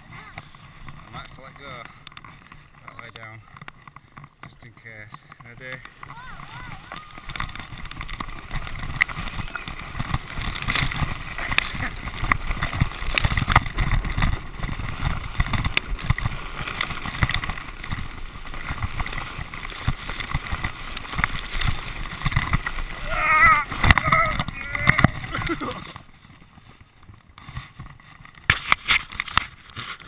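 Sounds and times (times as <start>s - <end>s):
sledge scraping over snow: 0.0s - 30.0s.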